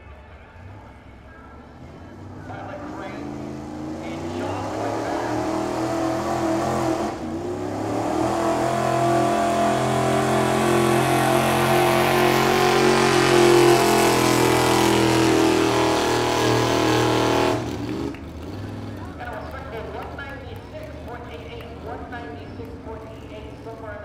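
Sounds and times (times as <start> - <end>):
pickup truck engine at full throttle: 1.6 - 24.0.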